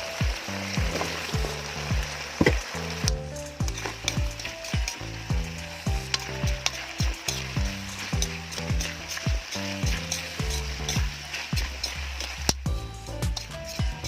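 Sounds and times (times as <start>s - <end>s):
background music with kick drum: 0.0s - 14.0s
food sizzling in a frying pan: 0.0s - 14.0s.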